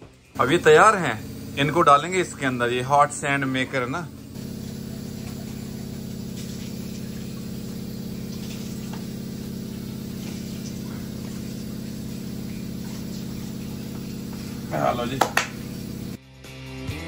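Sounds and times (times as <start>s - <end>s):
pulsing mechanical hum: 0.3s - 16.2s.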